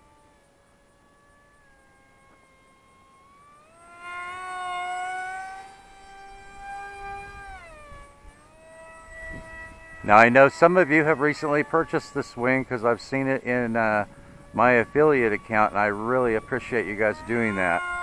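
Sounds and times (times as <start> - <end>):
electric motor and propeller whining: 0.0 - 18.0.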